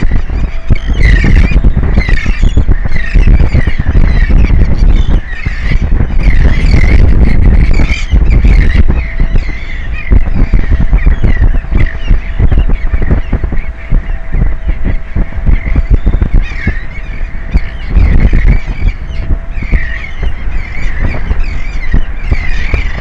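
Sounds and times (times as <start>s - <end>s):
faint steady hum: 0.0s - 23.0s
seabirds honking: 0.0s - 23.0s
wind buffeting microphone: 0.0s - 23.0s.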